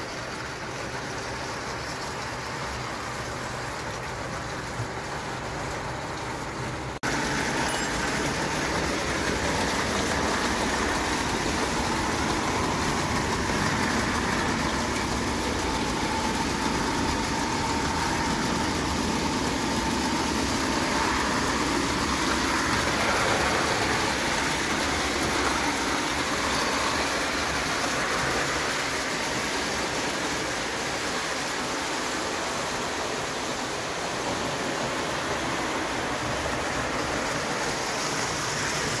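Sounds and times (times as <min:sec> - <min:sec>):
toy steam train rumbling and hissing: 0:07.1 - 0:39.0.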